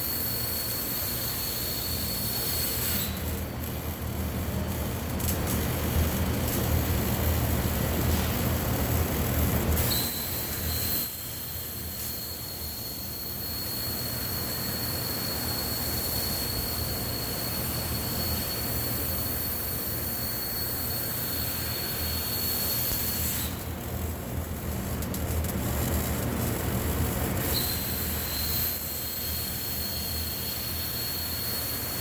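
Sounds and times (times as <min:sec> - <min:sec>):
welding arc buzzing and hissing: 0:00.0 - 0:32.0.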